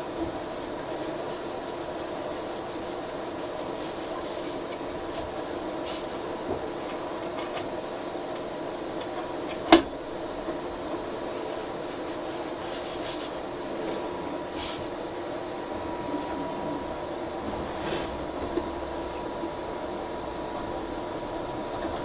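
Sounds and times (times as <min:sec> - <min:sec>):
cooling fans humming: 0:00.0 - 0:22.0
thin whine: 0:00.0 - 0:22.0.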